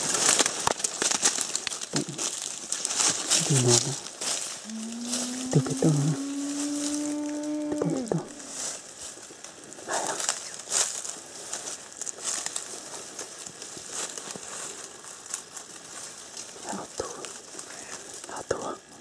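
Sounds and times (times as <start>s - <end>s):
leaves and twigs rustling underfoot: 0.0s - 19.0s.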